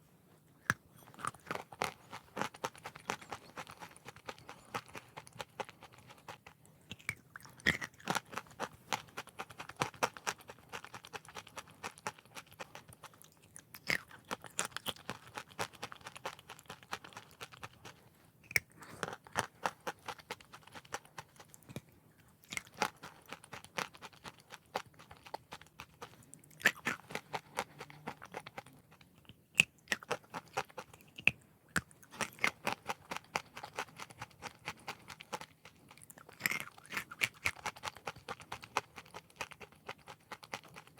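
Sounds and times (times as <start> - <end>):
chalk being chewed crunching: 0.6 - 40.9.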